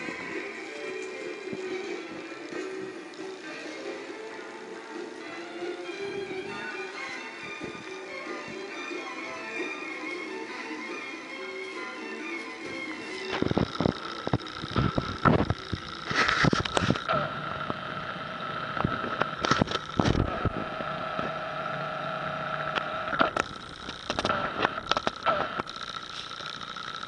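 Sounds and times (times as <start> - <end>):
high-pitched hum: 0.0 - 27.0.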